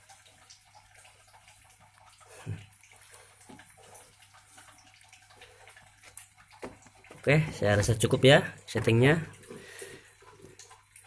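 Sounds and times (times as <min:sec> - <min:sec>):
small splashes and water sloshing: 0:00.0 - 0:11.0.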